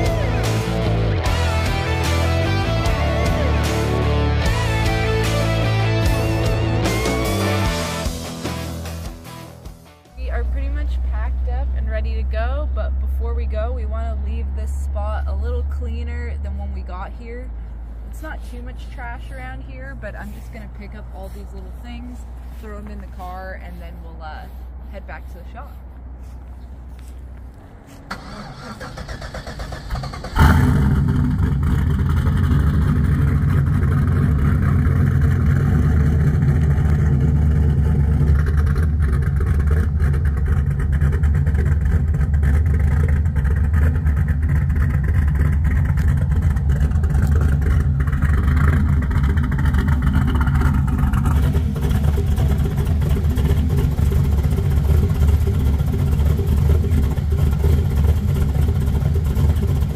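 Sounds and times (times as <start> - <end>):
car engine starting and idling: 0.0 - 59.9.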